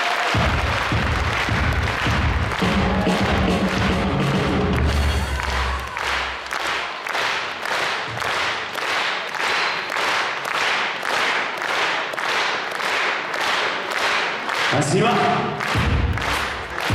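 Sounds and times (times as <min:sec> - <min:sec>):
audience clapping in unison: 0:00.0 - 0:16.9.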